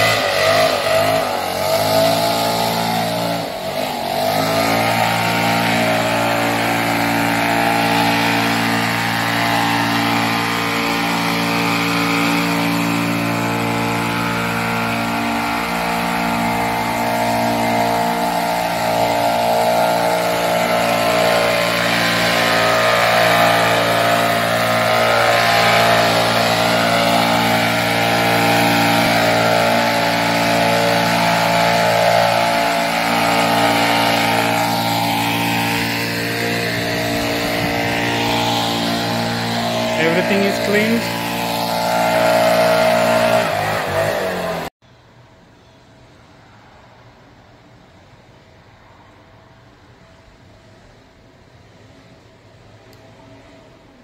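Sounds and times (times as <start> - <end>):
leaf blower running: 0.0 - 44.8.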